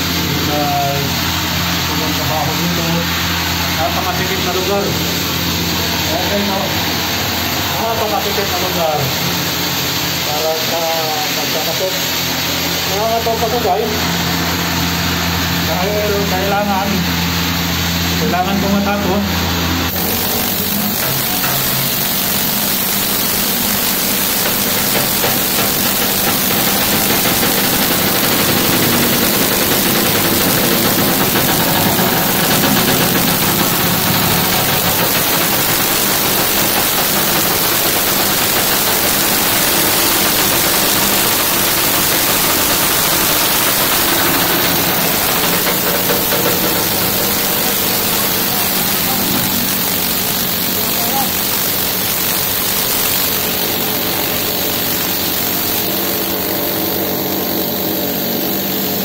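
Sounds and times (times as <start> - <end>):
ship machinery drone: 0.0 - 59.0.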